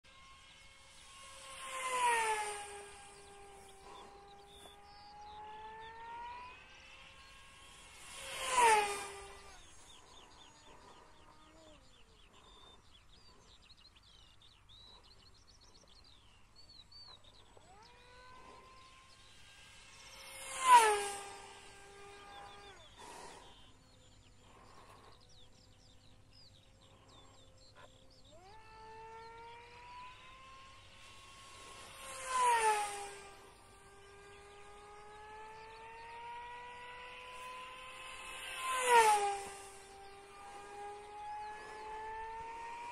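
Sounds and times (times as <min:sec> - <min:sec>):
rc plane motor whining past: 0:00.0 - 0:42.9
birds chirping faintly: 0:00.1 - 0:42.9.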